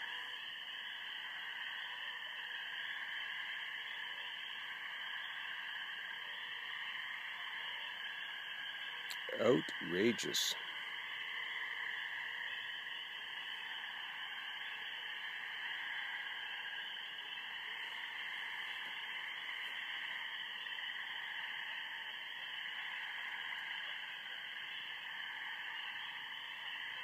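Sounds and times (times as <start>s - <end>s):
chorus of frogs calling: 0.0s - 27.0s.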